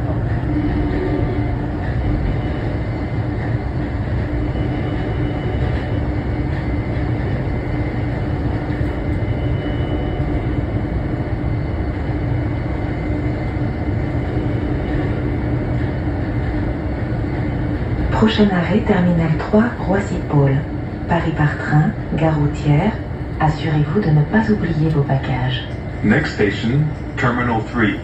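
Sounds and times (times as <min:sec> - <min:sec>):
train interior rumble and hum: 0:00.0 - 0:28.0.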